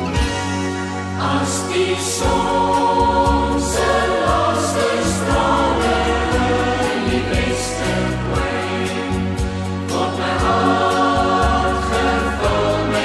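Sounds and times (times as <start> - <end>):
a cappella choir singing: 1.1 - 13.0.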